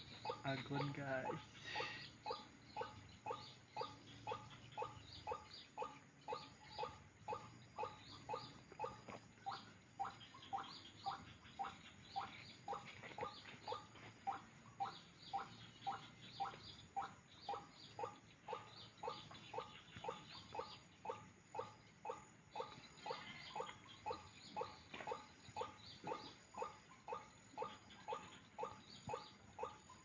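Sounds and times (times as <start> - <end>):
animal calling rhythmically: 0.0 - 30.0.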